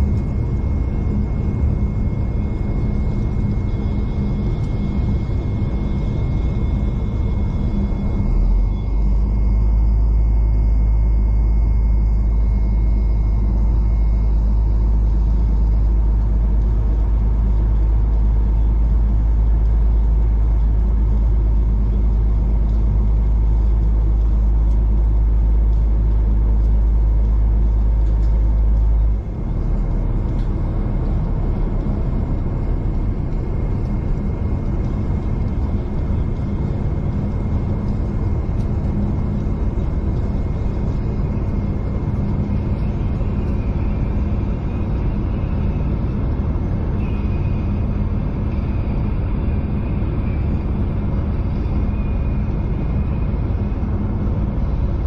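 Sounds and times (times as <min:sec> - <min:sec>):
diesel train rumbling: 0:00.0 - 0:55.0.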